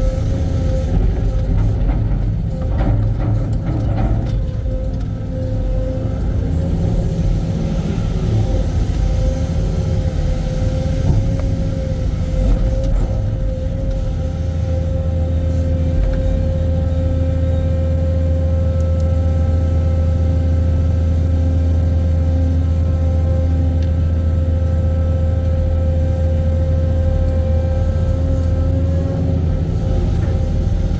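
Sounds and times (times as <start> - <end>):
excavator engine rumbling: 0.0 - 30.9
whining tone: 0.0 - 30.9.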